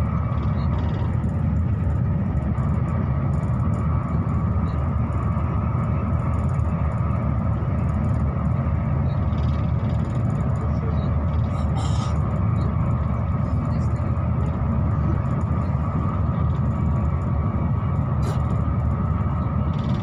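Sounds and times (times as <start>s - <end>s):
faint steady whine: 0.0s - 20.0s
train rumbling: 0.0s - 20.0s.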